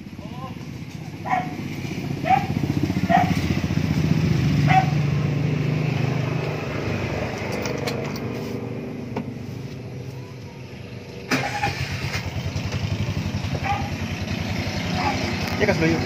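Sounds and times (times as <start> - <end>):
auto-rickshaw engine throbbing: 0.0 - 16.0.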